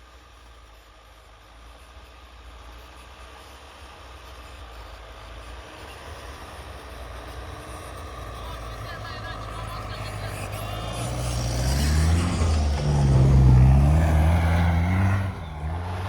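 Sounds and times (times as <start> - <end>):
pickup engine and tyre rumble: 0.0 - 16.0.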